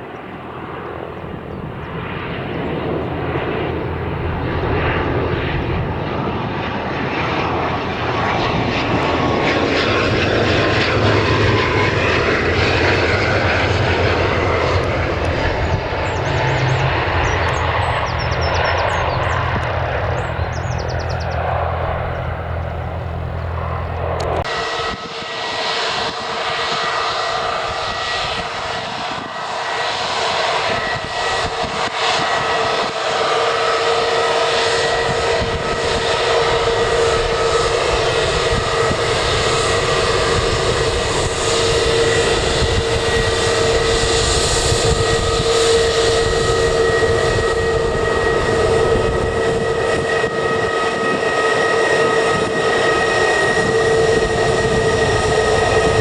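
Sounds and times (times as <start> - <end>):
aircraft engines whining: 0.0 - 56.0.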